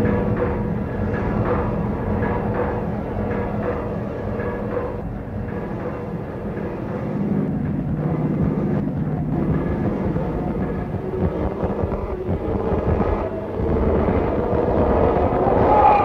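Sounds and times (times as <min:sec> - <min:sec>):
steady droning tones: 0:00.0 - 0:16.0.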